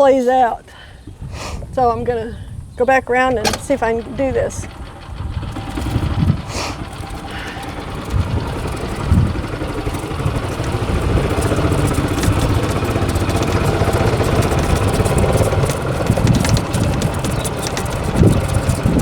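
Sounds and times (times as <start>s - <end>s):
light clicks and rattles: 3.1s - 19.0s
vehicle engine running: 3.1s - 19.0s.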